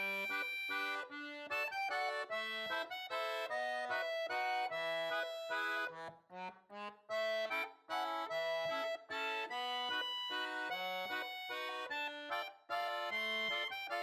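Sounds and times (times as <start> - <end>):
lively instrumental music: 0.0 - 14.0.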